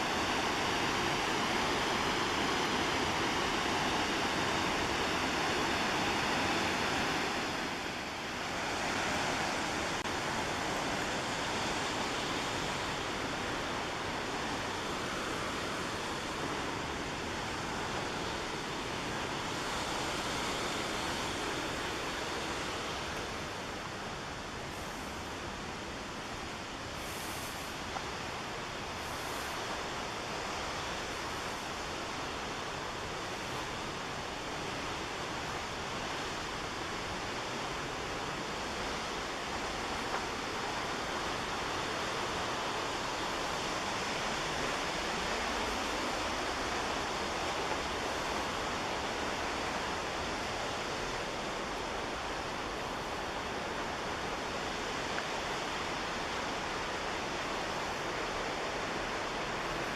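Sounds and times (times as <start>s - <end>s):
river white water roar: 0.0s - 59.9s.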